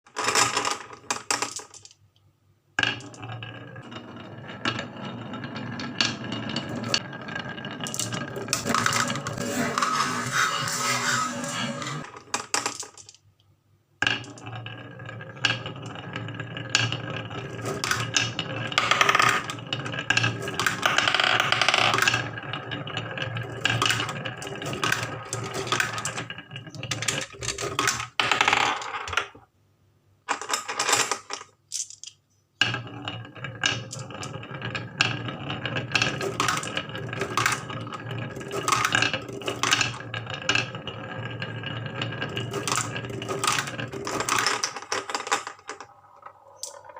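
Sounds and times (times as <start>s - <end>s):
marbles clattering down wooden run: 0.1s - 2.0s, 2.8s - 13.2s, 14.0s - 29.4s, 30.3s - 46.9s.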